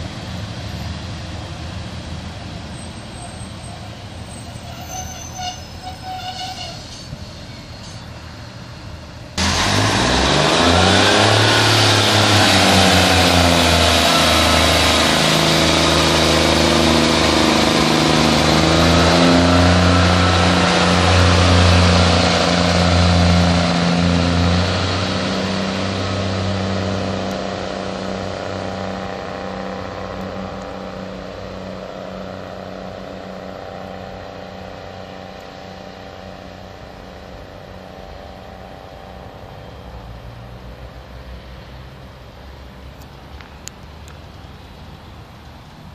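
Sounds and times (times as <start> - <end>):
diesel train engines accelerating: 0.0 - 45.9.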